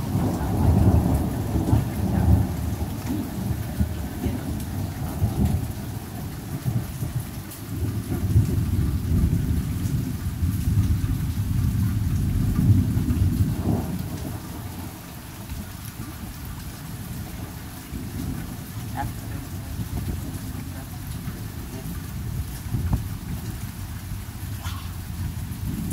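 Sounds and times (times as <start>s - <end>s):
steady rain: 0.0s - 25.9s
thunder rolling: 0.0s - 25.9s.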